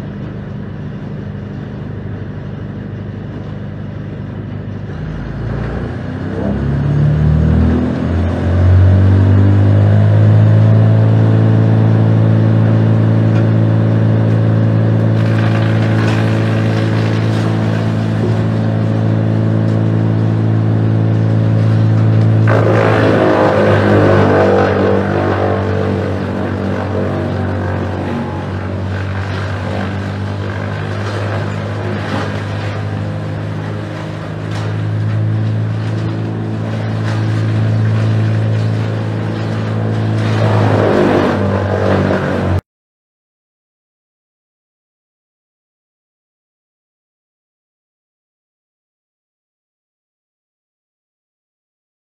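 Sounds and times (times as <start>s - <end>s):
wood chipper crunching: 0.0s - 42.6s
wood chipper engine revving: 0.0s - 42.6s.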